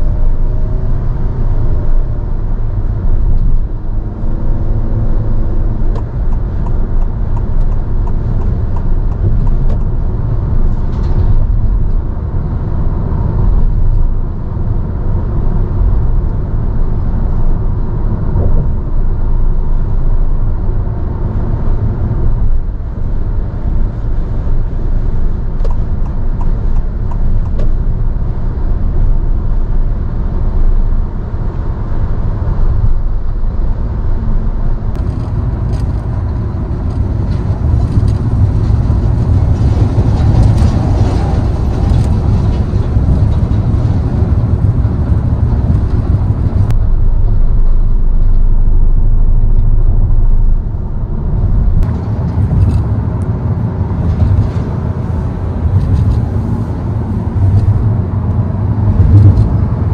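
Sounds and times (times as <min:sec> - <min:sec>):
tyre and road rumble: 0:00.0 - 0:59.9.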